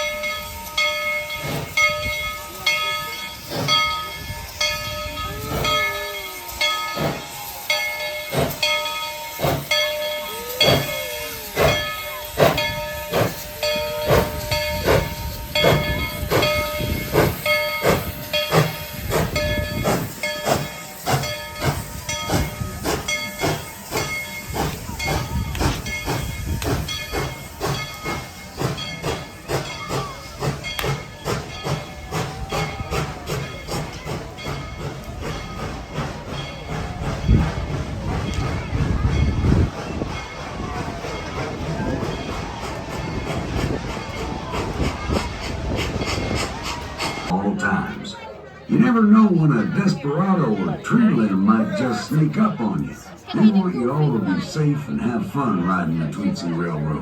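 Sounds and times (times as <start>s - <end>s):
locomotive bell ringing: 0.0s - 57.0s
locomotive steam hissing: 0.0s - 57.0s.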